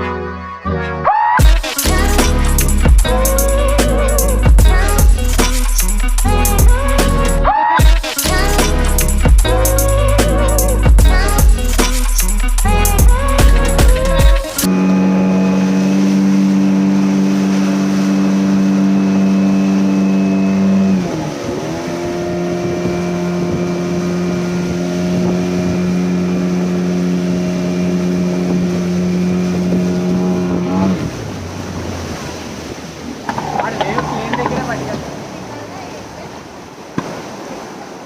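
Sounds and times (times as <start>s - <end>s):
motorboat engine running: 1.4s - 36.8s.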